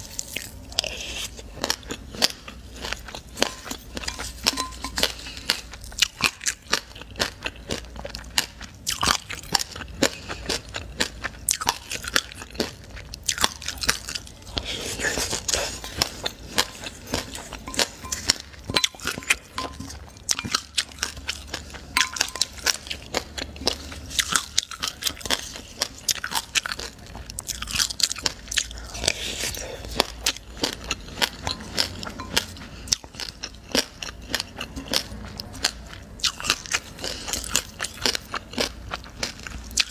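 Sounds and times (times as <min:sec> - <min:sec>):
crunching sesame seeds: 0:00.0 - 0:39.9.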